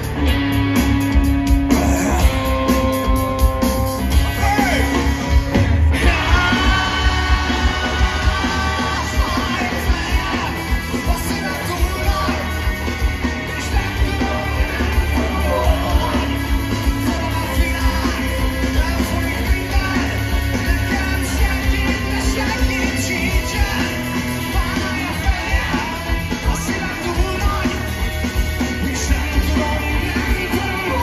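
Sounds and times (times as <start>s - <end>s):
live rock band: 0.0s - 31.0s
man singing: 1.7s - 2.9s, 4.3s - 5.1s, 6.0s - 28.0s, 28.6s - 31.0s.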